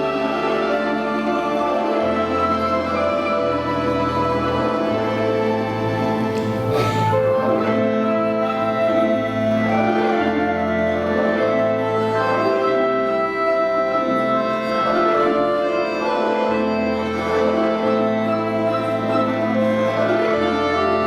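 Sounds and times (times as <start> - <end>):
folk orchestra playing chords: 0.0 - 21.0.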